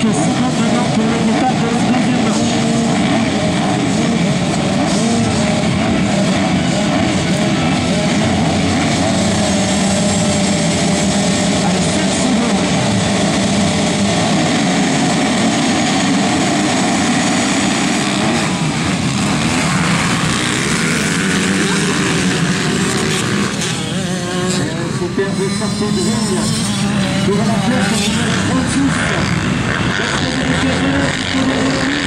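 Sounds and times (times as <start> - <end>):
motocross bikes revving and racing: 0.0 - 32.0.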